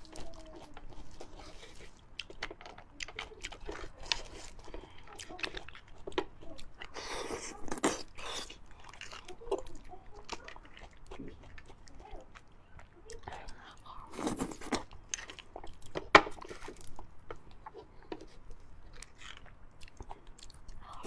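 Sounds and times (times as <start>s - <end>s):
close chewing and biting: 0.0s - 21.0s.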